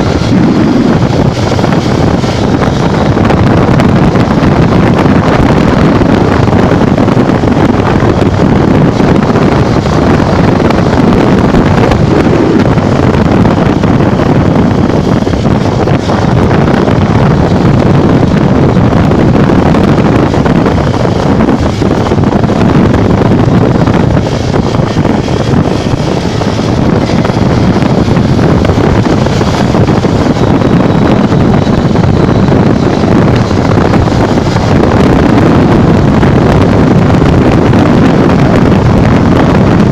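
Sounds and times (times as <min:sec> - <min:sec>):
wind roar on microphone: 0:00.0 - 0:39.9.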